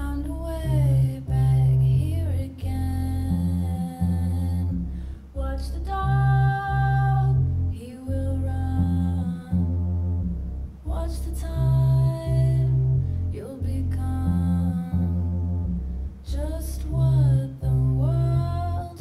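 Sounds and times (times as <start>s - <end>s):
deep heavy bass line: 0.0s - 19.0s.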